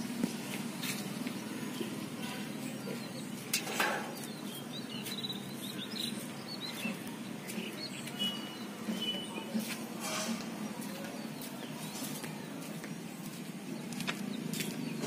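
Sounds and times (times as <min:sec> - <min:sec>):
small birds chirping: 0:00.8 - 0:09.7, 0:10.6 - 0:15.0.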